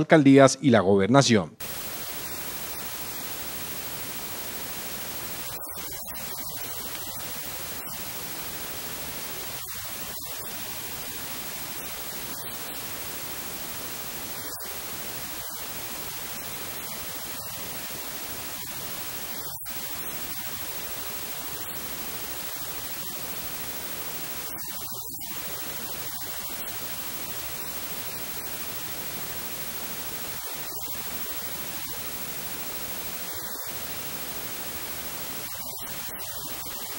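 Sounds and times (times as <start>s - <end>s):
static hiss: 1.6s - 36.9s.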